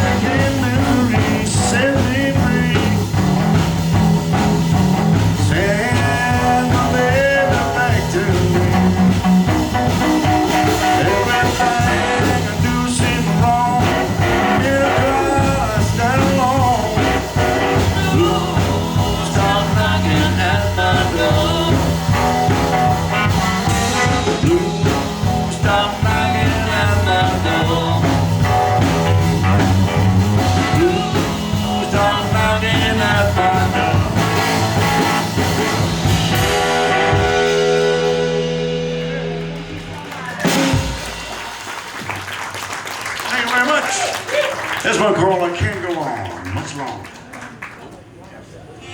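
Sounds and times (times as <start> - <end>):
live blues band playing: 0.0 - 46.9.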